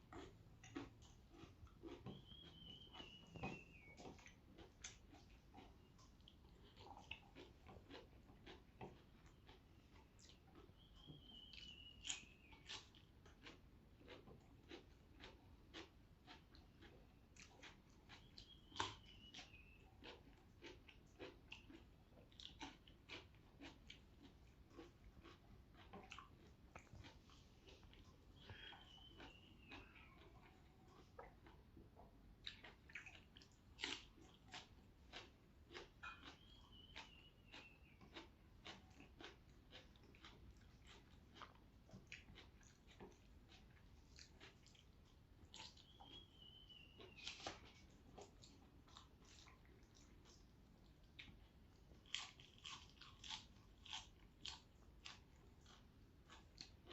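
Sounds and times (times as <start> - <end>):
chewing crunchy food: 0.0 - 56.9.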